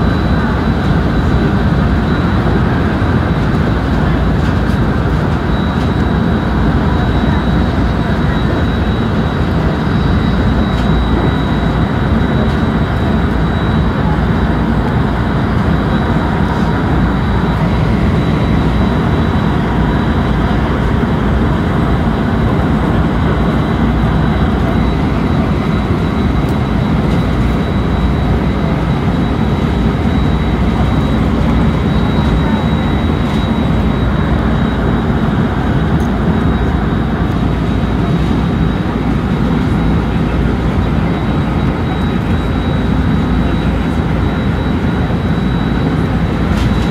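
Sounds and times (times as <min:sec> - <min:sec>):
faint high steady tone: 0:05.4 - 0:46.9.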